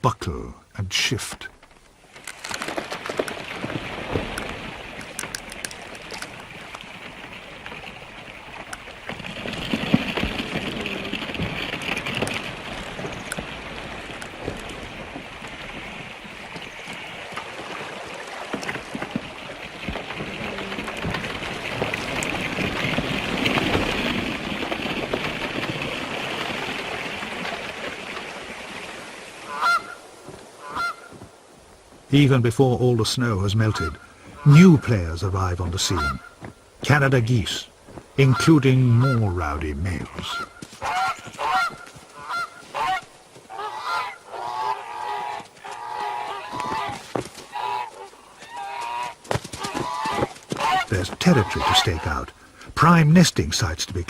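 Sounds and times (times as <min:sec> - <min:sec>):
lake ice crackling and grinding: 0:01.0 - 0:54.0.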